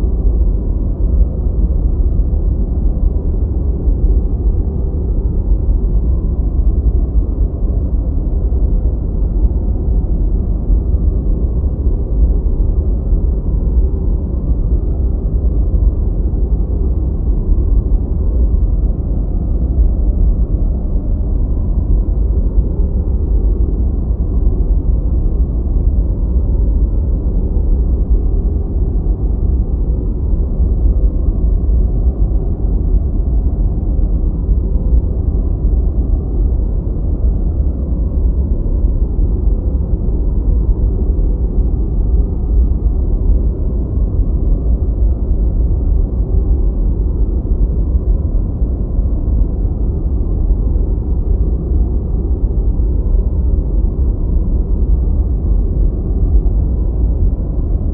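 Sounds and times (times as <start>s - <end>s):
deep white noise: 0.0s - 57.9s.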